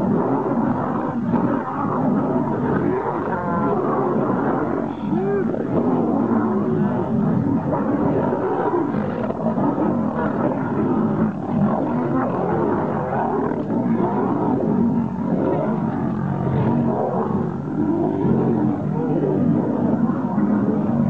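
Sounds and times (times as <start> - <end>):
lions growling: 0.0 - 21.0.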